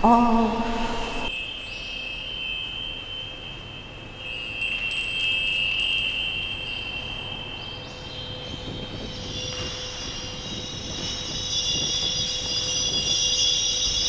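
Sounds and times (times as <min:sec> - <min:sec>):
hanging metal bells and chimes ringing: 0:01.3 - 0:14.0.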